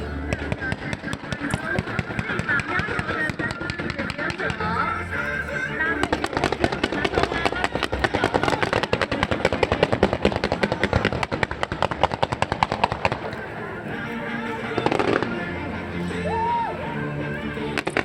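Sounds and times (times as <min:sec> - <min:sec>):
fireworks cracking and banging: 0:00.0 - 0:16.6, 0:17.6 - 0:18.0.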